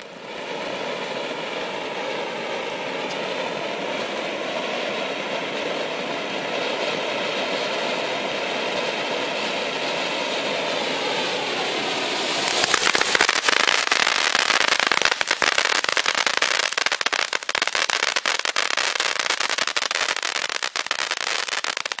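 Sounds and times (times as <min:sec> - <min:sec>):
firework crackling pops: 0:00.0 - 0:22.0
firework fountain hissing: 0:00.0 - 0:22.0.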